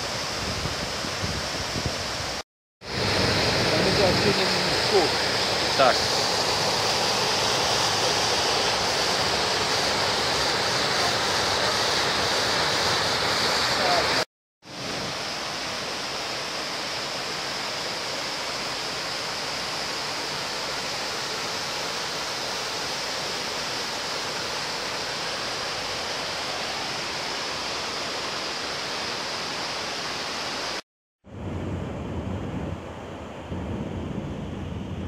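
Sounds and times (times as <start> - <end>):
waterfall rushing over rocks: 0.0 - 30.8.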